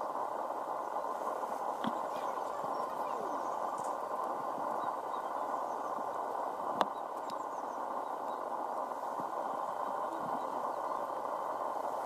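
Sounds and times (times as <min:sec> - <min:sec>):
distant steam locomotive running: 0:00.0 - 0:12.0.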